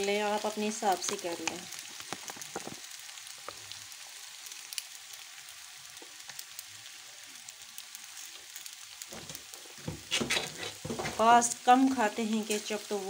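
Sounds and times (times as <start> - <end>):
food sizzling in a pan: 0.0 - 13.0
small crackles: 0.0 - 13.0.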